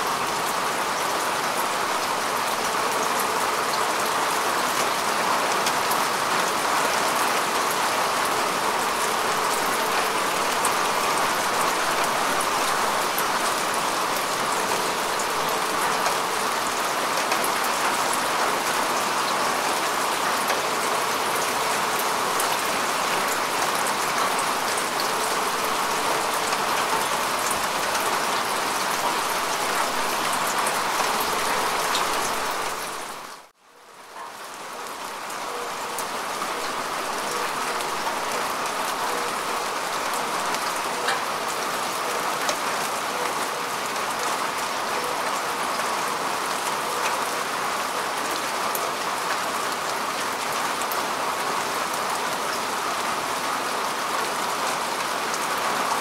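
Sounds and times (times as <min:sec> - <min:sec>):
rain falling on grass: 0:00.0 - 0:56.0.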